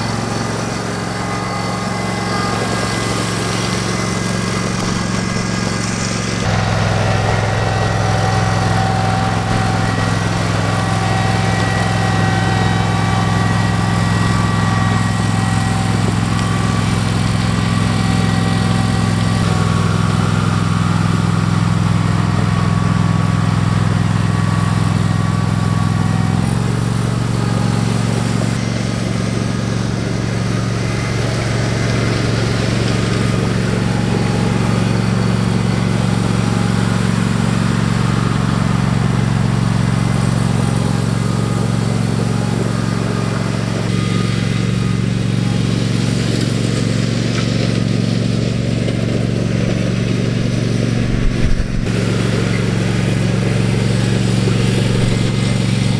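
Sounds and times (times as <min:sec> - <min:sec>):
garden tractor engine running: 0:00.0 - 0:55.9.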